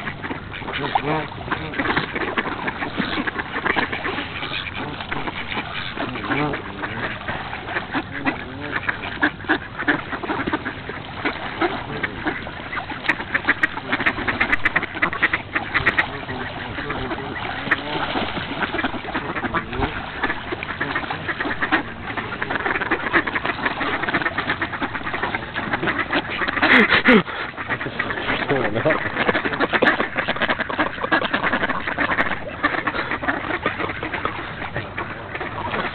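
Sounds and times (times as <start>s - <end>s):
ducks quacking: 0.0s - 35.9s.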